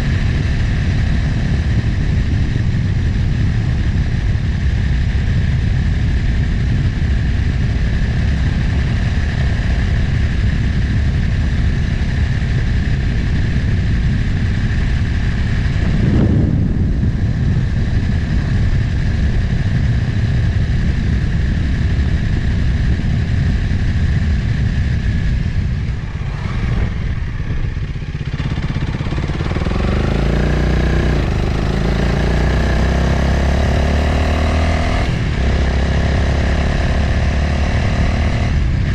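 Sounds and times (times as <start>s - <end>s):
motorcycle engine: 0.0s - 38.9s
wind rush on microphone: 0.0s - 38.9s.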